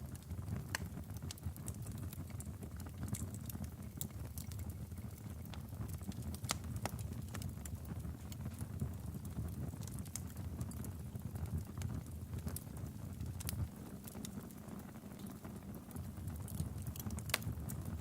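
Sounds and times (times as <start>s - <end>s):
fireplace logs crackling: 0.1s - 18.0s.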